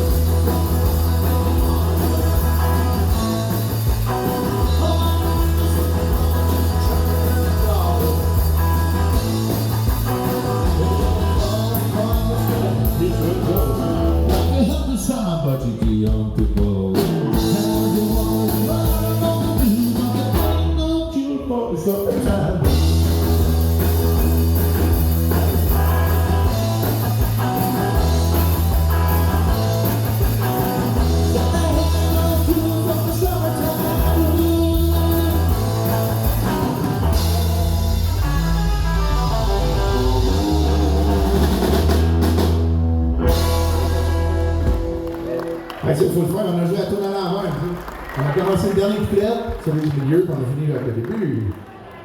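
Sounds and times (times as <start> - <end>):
heavy bass line: 0.0 - 21.0, 22.3 - 45.5
live rock band playing: 0.0 - 49.4.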